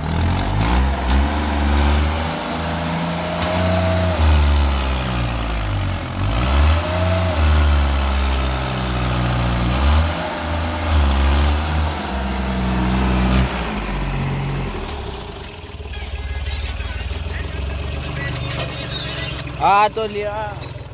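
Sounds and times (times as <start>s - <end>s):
tractor diesel engine revving: 0.0s - 20.9s.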